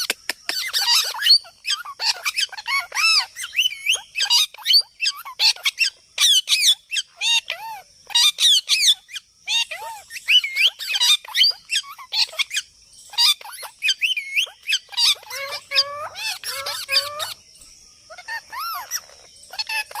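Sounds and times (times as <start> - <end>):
birds squawking and chirping: 0.0 - 20.0.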